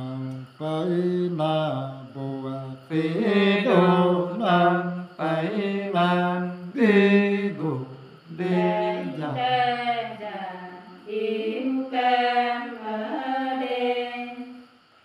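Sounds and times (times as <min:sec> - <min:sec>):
men singing unaccompanied: 0:00.0 - 0:14.5.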